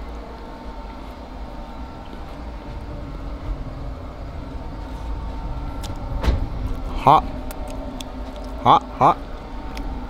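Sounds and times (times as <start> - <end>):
faint steady hum: 0.0 - 10.0
low outdoor rumble: 0.0 - 10.0.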